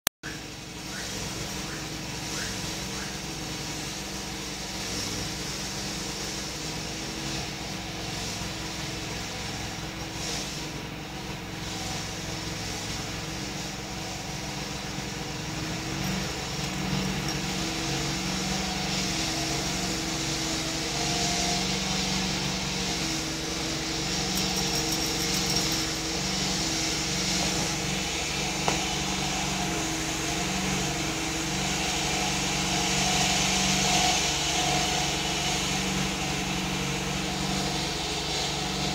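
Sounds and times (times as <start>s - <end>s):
mechanical hum with low buzz: 0.2s - 38.9s.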